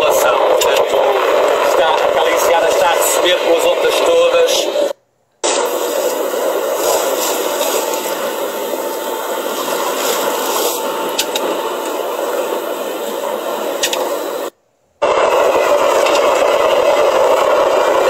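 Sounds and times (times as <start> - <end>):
sea water rushing along hull: 0.0 - 18.0.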